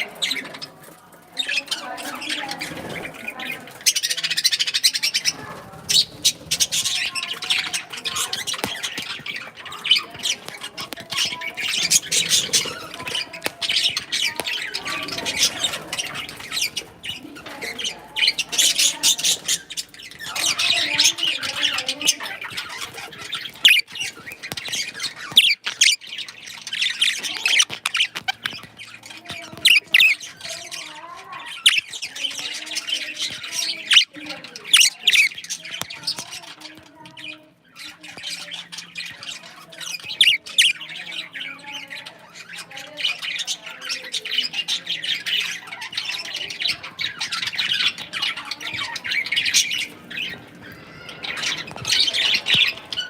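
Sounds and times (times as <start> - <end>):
birds calling high and short: 0.0 - 53.0.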